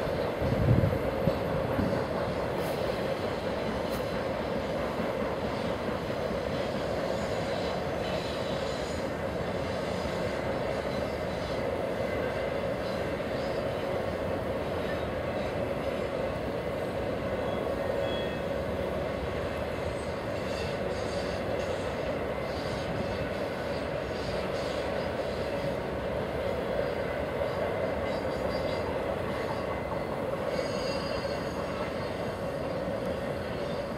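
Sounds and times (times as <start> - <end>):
train wheels rumbling on rail: 0.0 - 33.9.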